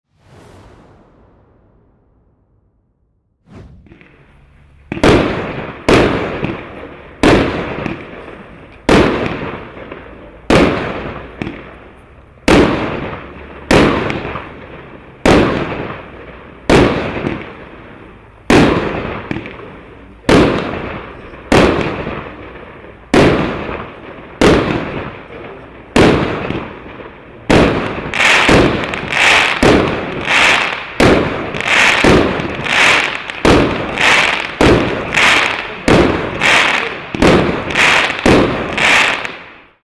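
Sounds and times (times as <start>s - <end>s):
fireworks shots firing: 3.4s - 39.8s.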